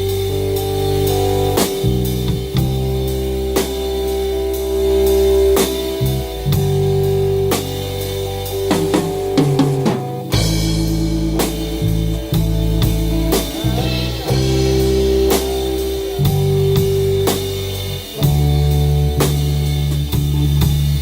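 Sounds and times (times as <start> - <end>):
sliding guitar notes: 0.0 - 20.5
band playing rock music: 0.0 - 21.0.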